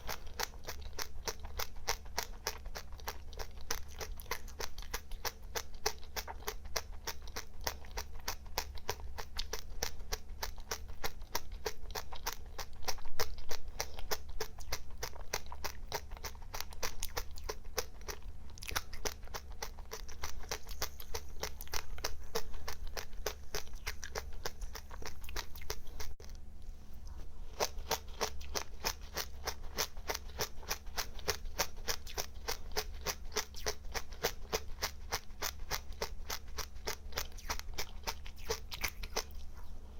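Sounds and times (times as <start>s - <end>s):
chewing crunchy seeds: 0.0s - 39.9s
steady low hum: 0.0s - 39.9s.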